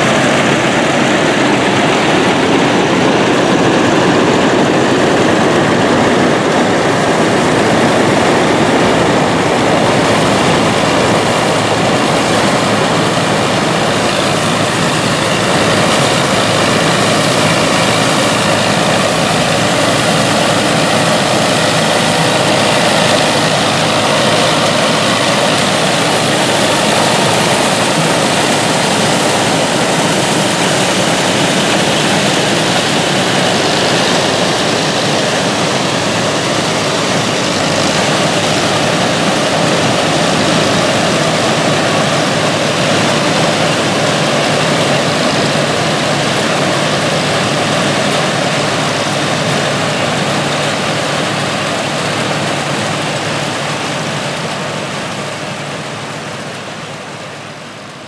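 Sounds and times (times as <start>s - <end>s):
corn picker machinery working: 0.0s - 58.0s
tractor engines running under load: 0.0s - 58.0s.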